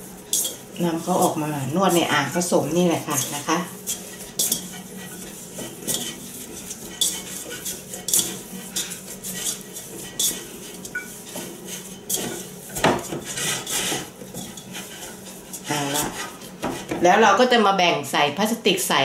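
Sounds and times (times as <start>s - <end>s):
hands kneading dough: 0.0s - 17.3s.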